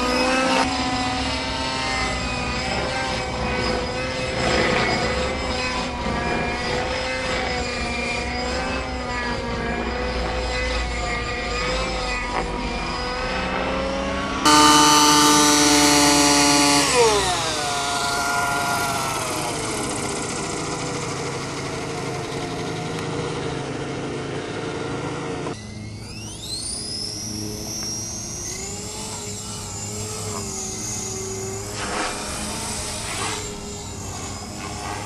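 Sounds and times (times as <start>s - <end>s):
loud close model helicopter: 0.0s - 35.0s
model helicopter engine and rotor drone: 0.0s - 35.0s.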